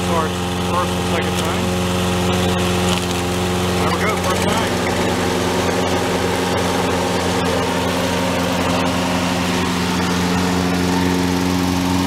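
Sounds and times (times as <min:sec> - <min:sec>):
lawn mower engines running: 0:00.0 - 0:12.0.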